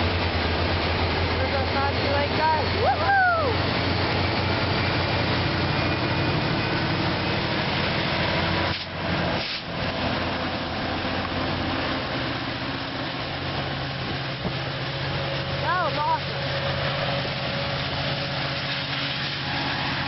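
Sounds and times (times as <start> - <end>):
locomotive engine humming: 0.0 - 20.0
train rolling noise: 0.0 - 20.0.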